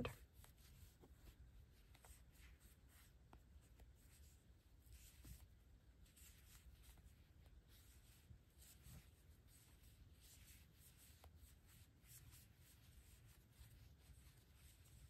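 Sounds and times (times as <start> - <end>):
crochet hook scratching yarn: 0.0 - 15.0.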